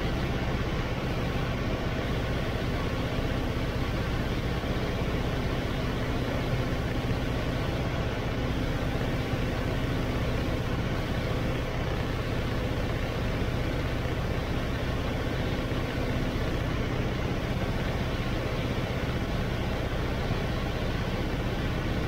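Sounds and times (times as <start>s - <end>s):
aircraft engine droning: 0.0s - 22.0s.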